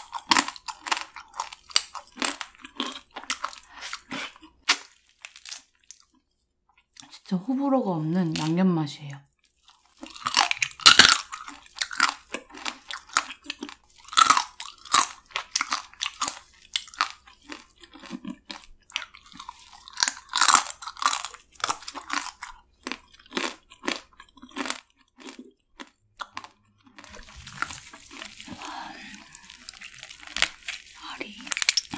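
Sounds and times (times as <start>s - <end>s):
crunching and chewing crab: 0.0s - 7.2s, 9.3s - 31.9s.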